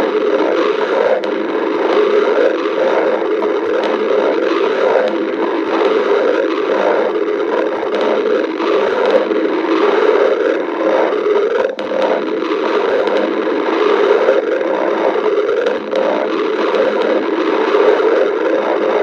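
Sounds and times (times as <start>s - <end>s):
stomach growling: 0.0s - 19.0s.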